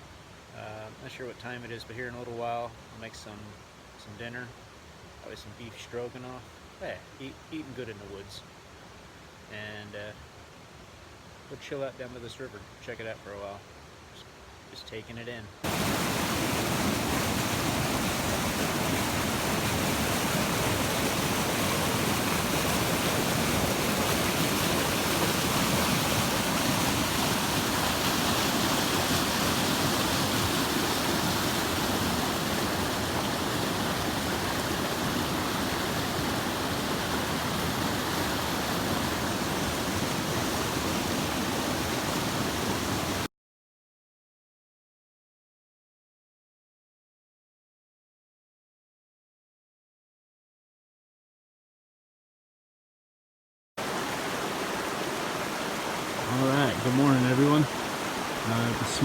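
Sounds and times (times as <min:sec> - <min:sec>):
mountain brook rushing: 0:00.0 - 0:43.3, 0:53.8 - 0:59.0.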